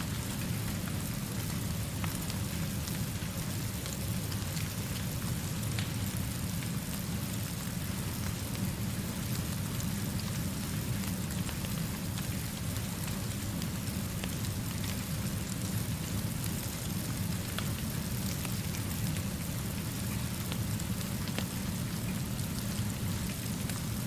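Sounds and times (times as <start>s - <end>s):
steady rainfall: 0.0s - 24.0s.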